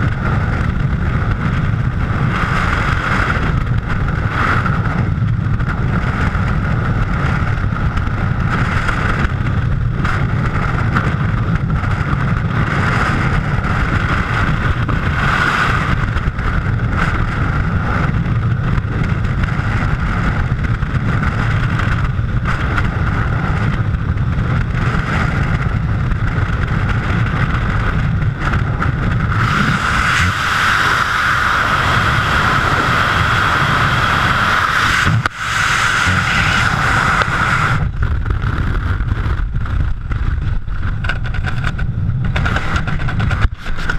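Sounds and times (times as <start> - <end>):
wind rushing over microphone: 0.0 - 43.9.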